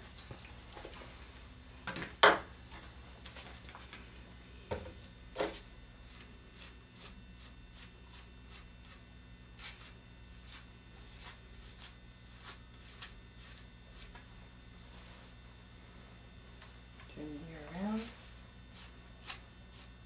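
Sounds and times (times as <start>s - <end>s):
low mains hum: 0.0s - 20.0s.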